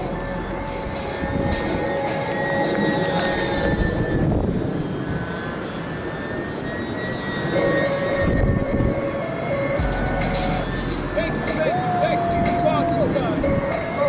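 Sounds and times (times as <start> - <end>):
model plane motor whining: 0.0 - 14.0
wind buffeting microphone: 0.0 - 14.0.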